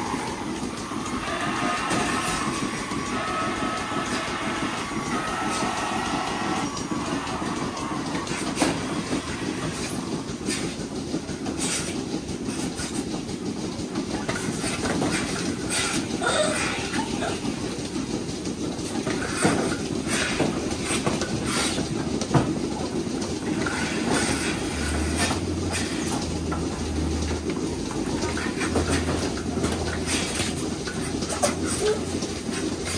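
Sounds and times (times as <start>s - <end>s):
milking equipment clanks and clicks: 0.0s - 32.9s
milking machinery hum: 0.0s - 32.9s.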